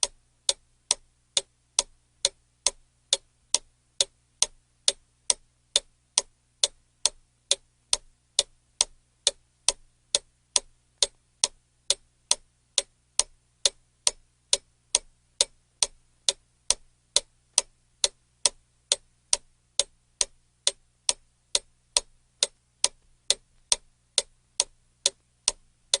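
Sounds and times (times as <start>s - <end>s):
clock ticking: 0.0s - 26.0s.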